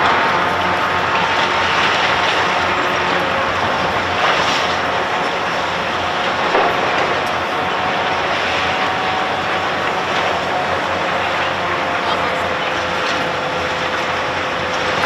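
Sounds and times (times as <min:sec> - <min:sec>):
heavy construction machine running: 0:00.0 - 0:15.0.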